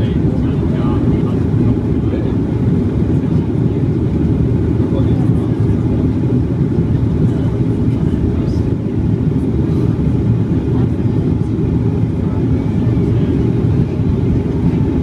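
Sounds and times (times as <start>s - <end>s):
airliner engine low rumble: 0.0s - 15.0s.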